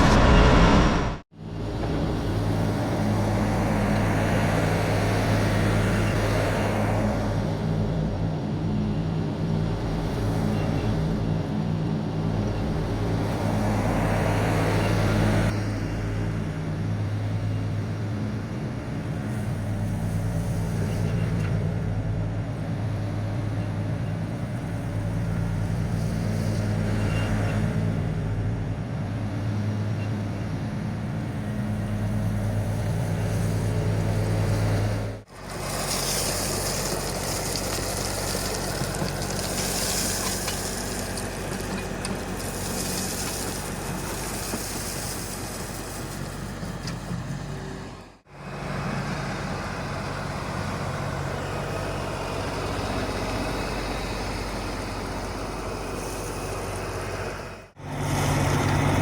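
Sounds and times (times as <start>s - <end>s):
tractor diesel engine running: 1.4s - 59.0s.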